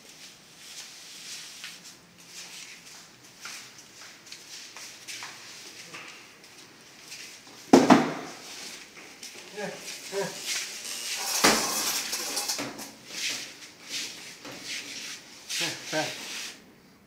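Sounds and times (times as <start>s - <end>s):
faint footsteps shuffling: 0.0s - 11.4s, 12.4s - 16.6s.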